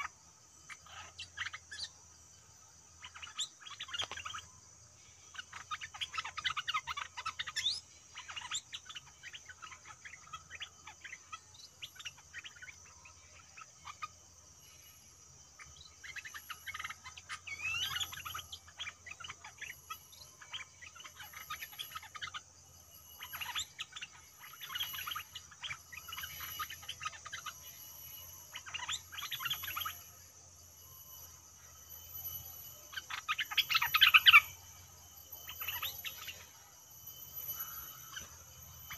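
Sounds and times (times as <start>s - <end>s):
bulbuls singing: 0.0s - 38.9s
faint pulsing insect call: 0.0s - 38.9s
high insect drone: 0.0s - 38.9s.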